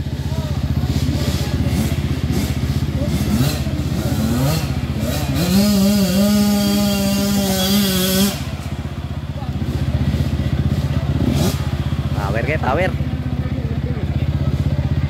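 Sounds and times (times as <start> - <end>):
dirt bike engines running: 0.0 - 15.0
engine revving: 0.0 - 15.0.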